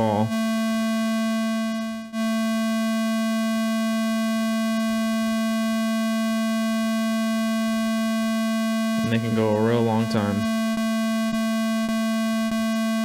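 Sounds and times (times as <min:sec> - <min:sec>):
buzzy synthesizer tone: 0:00.0 - 0:13.0.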